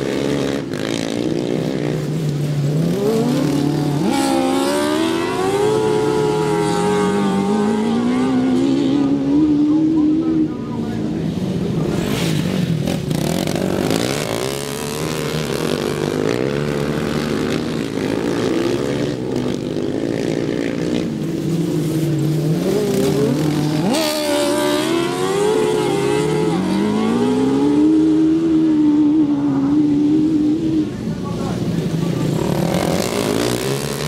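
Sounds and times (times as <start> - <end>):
lawn mower engines revving: 0.0 - 34.0.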